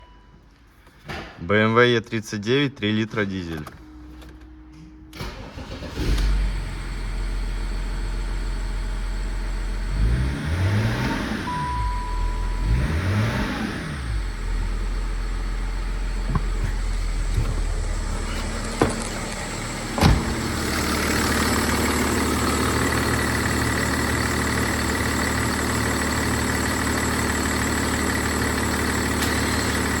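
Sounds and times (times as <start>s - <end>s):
diesel engine idling and revving: 4.1s - 30.0s.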